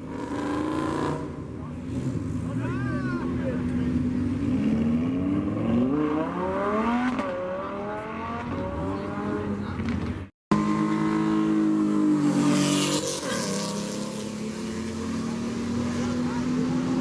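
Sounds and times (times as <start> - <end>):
car engines accelerating: 0.0 - 17.0.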